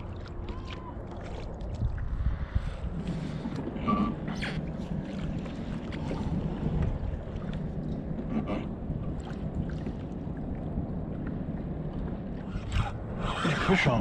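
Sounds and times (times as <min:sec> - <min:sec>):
water noise: 0:00.0 - 0:14.0
wind: 0:00.0 - 0:14.0.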